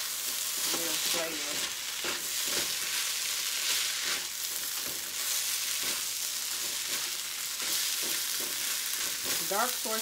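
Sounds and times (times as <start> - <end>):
rice sizzling in wok: 0.0 - 10.0
spatula stirring and tossing: 0.0 - 10.0.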